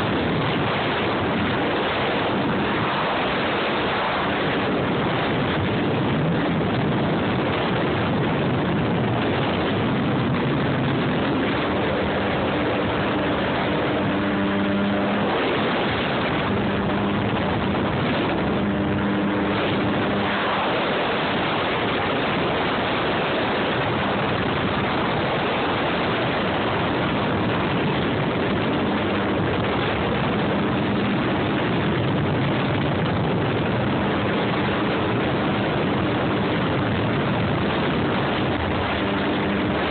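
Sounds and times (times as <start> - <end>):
jet ski engine running: 0.0 - 39.9
wind and water rushing: 0.0 - 39.9.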